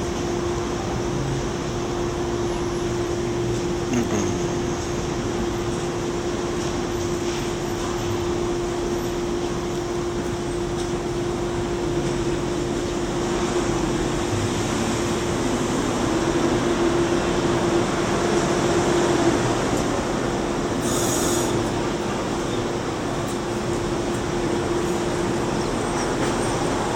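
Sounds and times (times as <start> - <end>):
subway train rumbling: 0.0 - 26.9.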